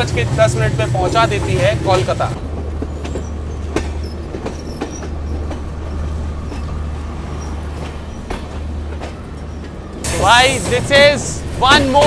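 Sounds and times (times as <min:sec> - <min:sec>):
train wheels rumbling: 0:00.0 - 0:12.0
wheels clacking over track joints: 0:00.0 - 0:12.0.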